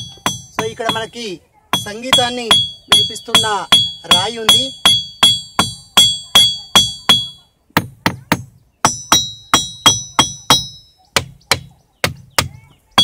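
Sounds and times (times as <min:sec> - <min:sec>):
stone striking ringing rock: 0:00.0 - 0:13.0.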